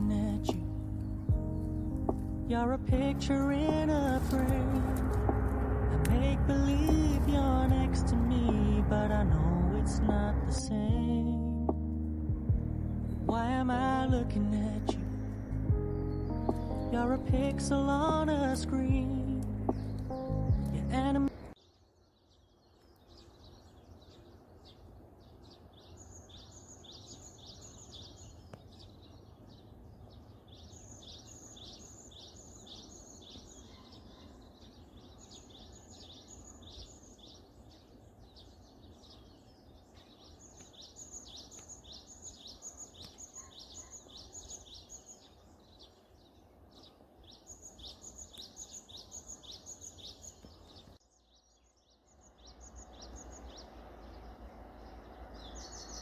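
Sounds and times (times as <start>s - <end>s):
low outdoor background hum: 0.0s - 56.0s
songbird singing: 0.0s - 56.0s.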